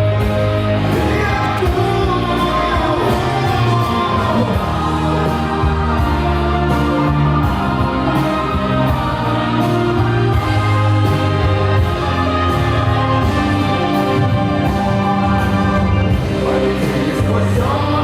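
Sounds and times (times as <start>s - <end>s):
band playing: 0.0s - 18.0s
layered singing voices: 0.0s - 18.0s.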